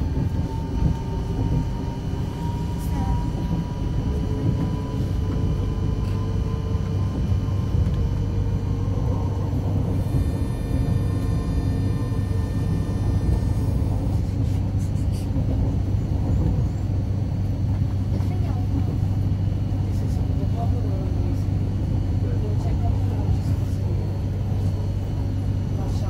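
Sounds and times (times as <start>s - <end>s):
constant low hum: 0.0s - 26.0s
train rumbling: 0.0s - 26.0s.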